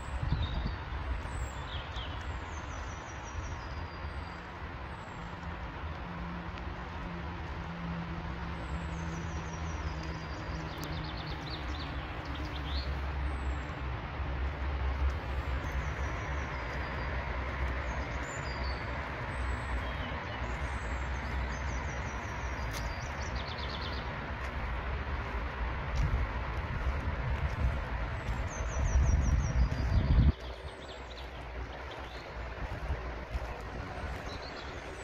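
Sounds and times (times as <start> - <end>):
songbirds singing: 0.0 - 6.1, 8.2 - 35.0.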